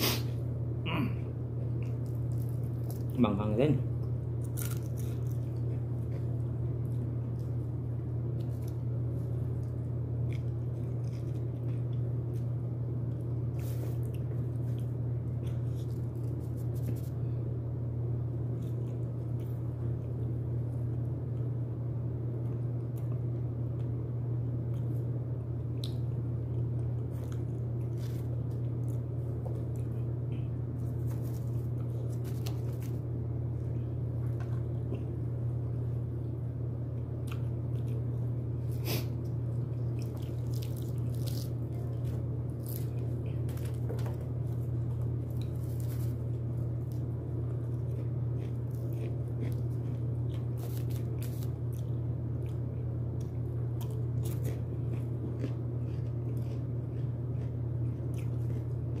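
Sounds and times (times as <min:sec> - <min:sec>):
steady low hum: 0:00.0 - 0:59.0
biting and chewing fried chicken: 0:01.3 - 0:59.0.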